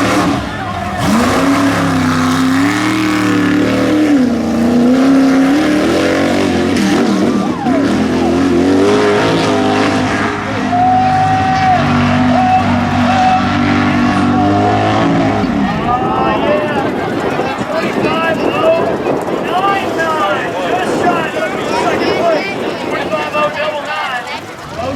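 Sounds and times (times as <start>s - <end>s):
truck engines revving: 0.0s - 24.9s.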